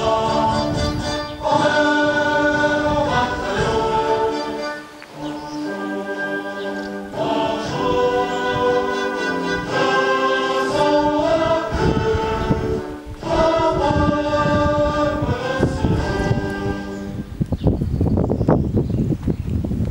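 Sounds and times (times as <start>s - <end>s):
wind rumble on microphone: 0.0s - 5.6s, 7.1s - 19.9s
choir singing: 0.0s - 17.4s.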